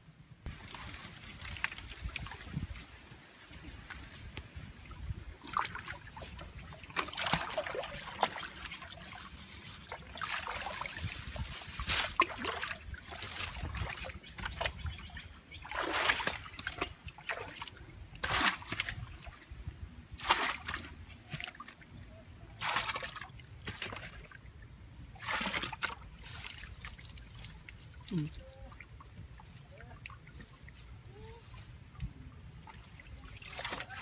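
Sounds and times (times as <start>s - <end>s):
muddy water splashing: 0.5s - 34.0s.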